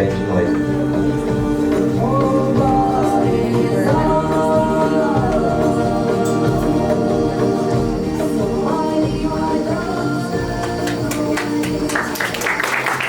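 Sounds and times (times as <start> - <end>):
music with singing voices: 0.0 - 13.0.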